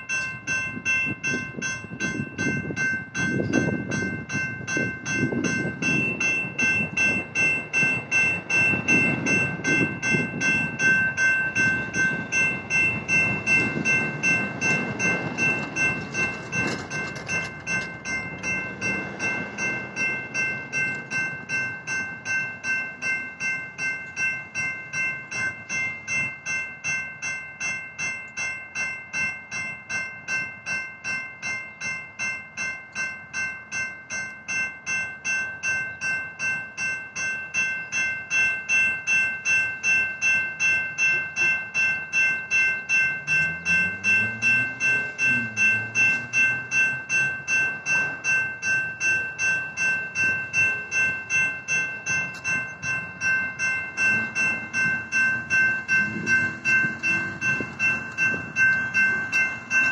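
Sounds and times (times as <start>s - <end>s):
railroad crossing bells ringing: 0.0s - 59.9s.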